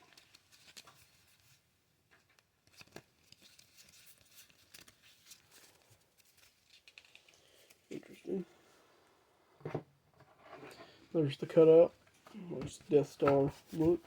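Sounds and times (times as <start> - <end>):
cards rustling and clicking: 0.0 - 8.4, 10.5 - 14.0.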